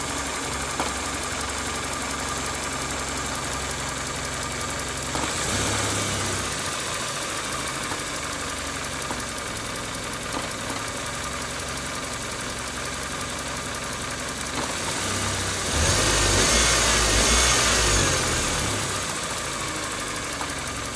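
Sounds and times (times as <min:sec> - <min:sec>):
car engine idling with knock: 0:00.0 - 0:20.9.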